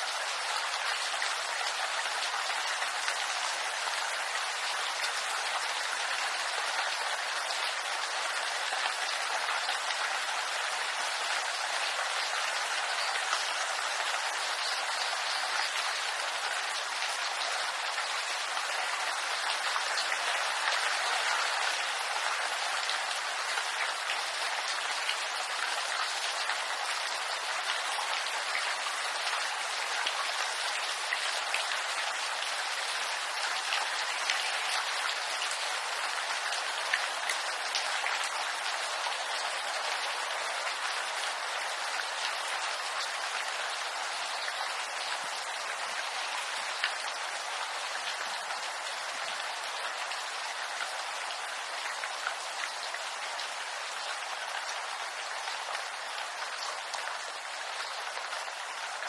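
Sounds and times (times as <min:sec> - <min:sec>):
rain on leaves: 0:00.0 - 0:59.0.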